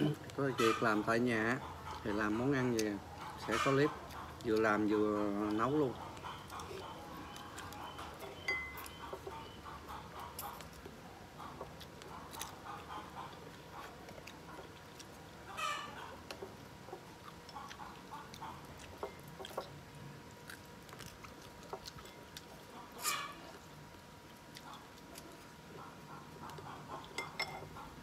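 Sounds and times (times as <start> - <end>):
chewing sounds: 0.0 - 28.0.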